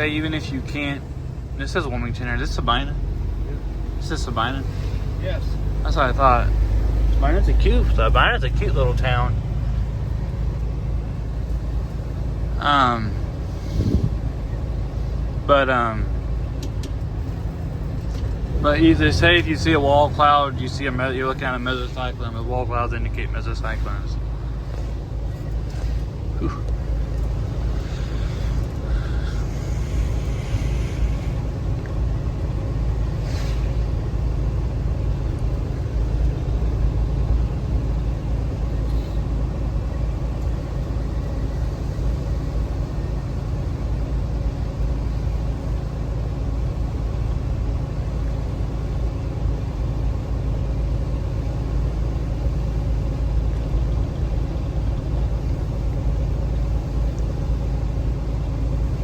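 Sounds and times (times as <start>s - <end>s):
car road rumble inside cabin: 0.0s - 59.0s.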